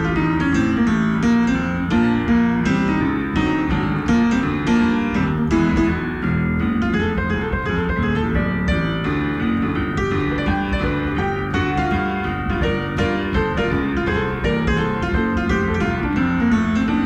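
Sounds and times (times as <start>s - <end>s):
jazz piano music: 0.0s - 17.0s.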